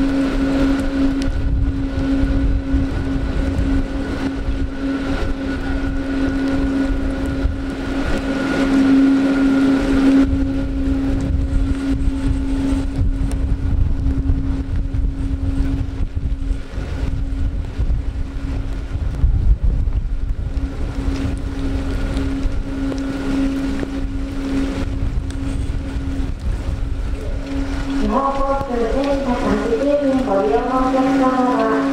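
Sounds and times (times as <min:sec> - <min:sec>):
jet engines whining: 0:00.0 - 0:31.9
wind buffeting microphone: 0:00.0 - 0:31.9.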